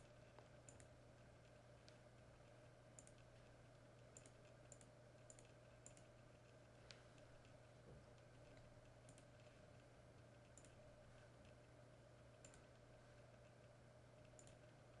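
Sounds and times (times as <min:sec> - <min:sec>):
computer mouse clicks: 0:00.0 - 0:07.6, 0:08.2 - 0:15.0
low steady hum: 0:00.0 - 0:15.0.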